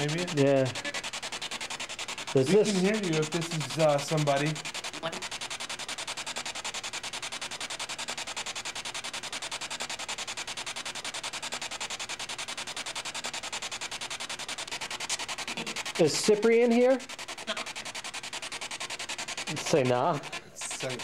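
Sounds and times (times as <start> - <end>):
choppy radio static bursts: 0.0 - 21.0.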